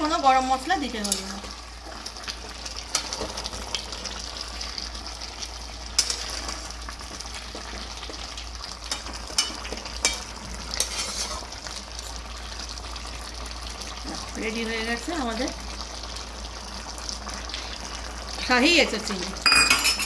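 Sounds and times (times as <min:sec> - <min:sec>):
curry sizzling in a pan: 0:00.0 - 0:20.0.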